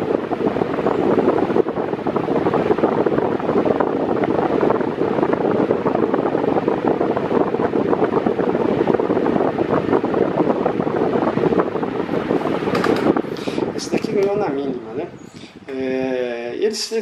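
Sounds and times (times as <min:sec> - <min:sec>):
fan air blowing on microphone: 0:00.0 - 0:17.0.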